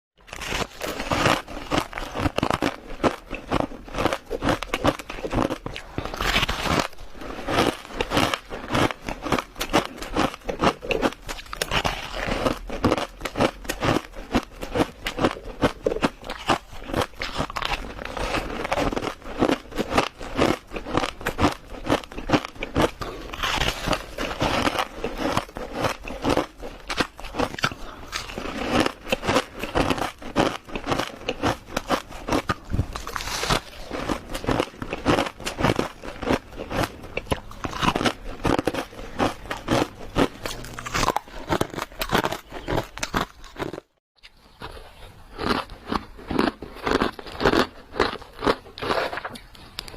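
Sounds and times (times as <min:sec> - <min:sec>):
crushed ice being chewed: 0:00.2 - 0:49.9.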